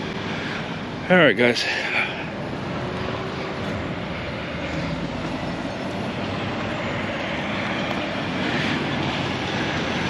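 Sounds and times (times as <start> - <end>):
passing vehicle rumble: 0.0 - 10.0.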